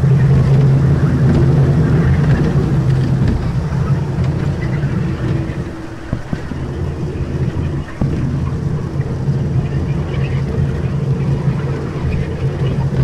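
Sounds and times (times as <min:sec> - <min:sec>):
small train drive hum: 0:00.0 - 0:13.0
train wheels rumbling: 0:00.0 - 0:13.0.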